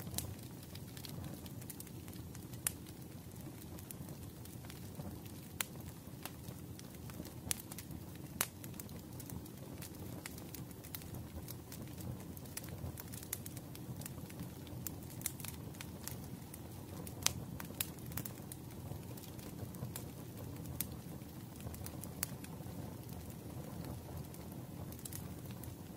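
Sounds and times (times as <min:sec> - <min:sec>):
firewood crackling and popping: 0:00.0 - 0:25.9.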